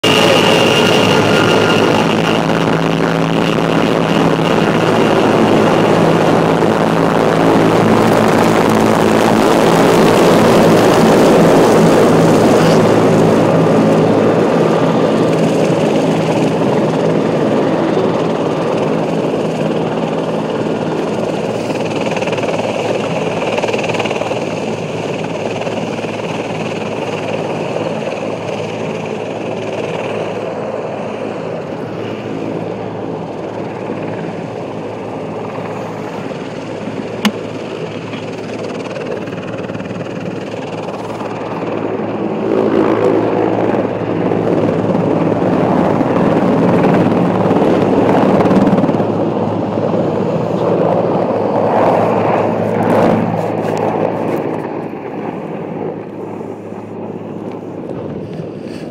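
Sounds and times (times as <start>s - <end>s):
helicopter engines and rotor: 0.0s - 58.9s.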